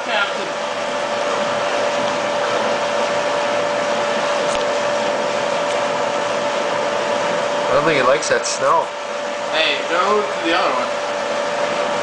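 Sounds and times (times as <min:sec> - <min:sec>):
circulation pump motor whirring: 0:00.0 - 0:12.0.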